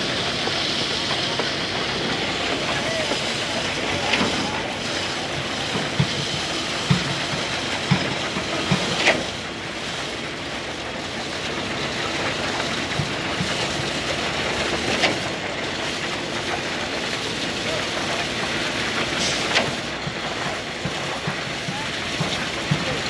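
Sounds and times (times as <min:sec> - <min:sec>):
concrete pump truck running: 0:00.0 - 0:23.0.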